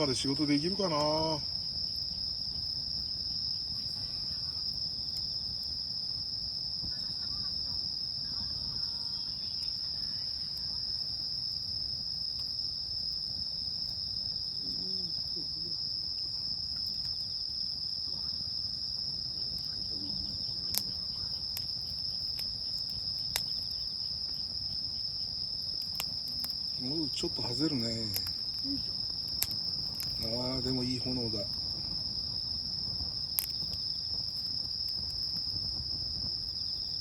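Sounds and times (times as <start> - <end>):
campfire crackles and pops: 0.0 - 37.0
crickets chirring: 0.0 - 37.0.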